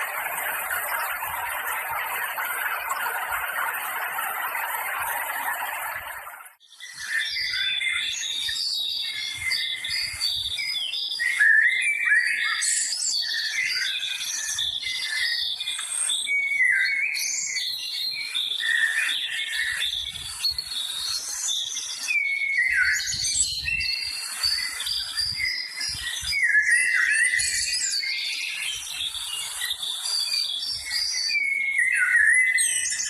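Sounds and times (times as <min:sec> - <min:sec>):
birds singing and chirping: 0:00.0 - 0:33.0.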